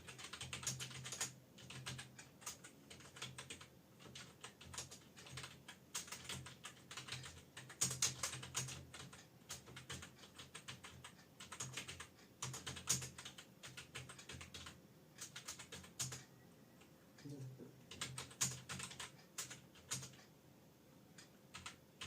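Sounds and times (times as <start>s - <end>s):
fast typing on a keyboard: 0.0s - 16.2s, 17.9s - 20.2s, 21.5s - 22.0s.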